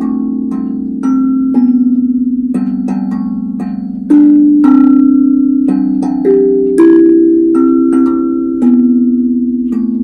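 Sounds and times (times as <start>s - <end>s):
steel tongue drum notes: 0.0s - 10.0s.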